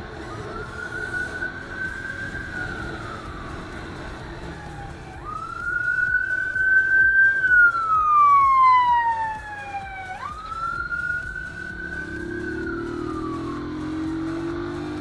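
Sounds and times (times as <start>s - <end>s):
motorcycle engine rumble: 0.0s - 15.0s
police siren wailing: 0.0s - 15.0s
traffic noise: 0.0s - 15.0s.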